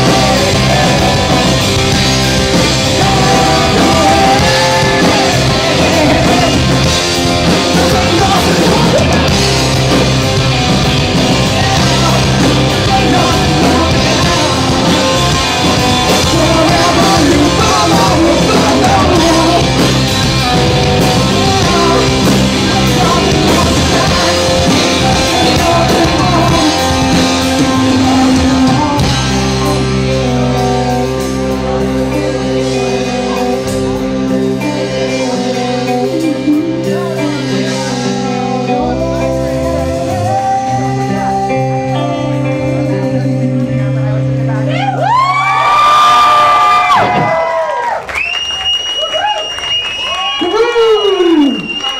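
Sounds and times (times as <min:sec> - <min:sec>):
person singing: 0:00.0 - 0:10.1, 0:10.8 - 0:45.1
drum kit: 0:00.0 - 0:44.0, 0:45.0 - 0:47.8
rock band playing: 0:00.0 - 0:51.9.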